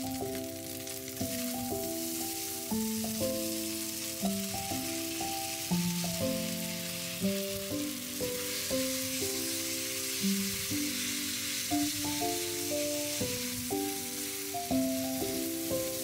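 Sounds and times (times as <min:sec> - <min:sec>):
background music: 0:00.0 - 0:16.0
noodles sizzling in frying pan: 0:00.0 - 0:16.0.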